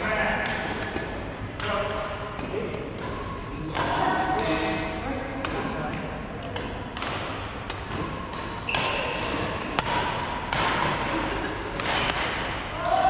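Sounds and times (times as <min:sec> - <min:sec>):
rackets hitting shuttlecock: 0:00.2 - 0:13.0.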